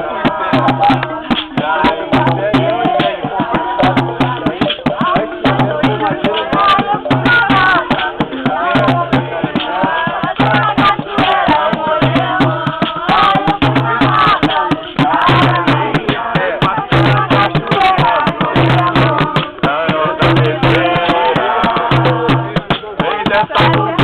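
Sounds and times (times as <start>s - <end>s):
voices singing: 0.0s - 24.0s.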